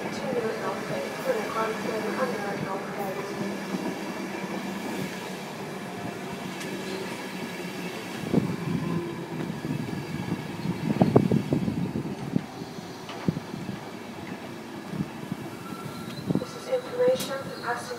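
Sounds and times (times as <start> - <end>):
train running hum: 0.0 - 17.9.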